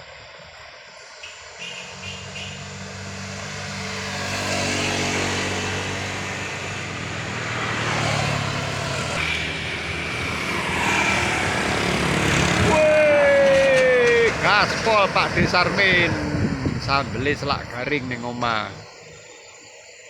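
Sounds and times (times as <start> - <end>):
truck diesel engine labouring: 0.9 - 19.3
tyre and road noise: 1.5 - 19.0.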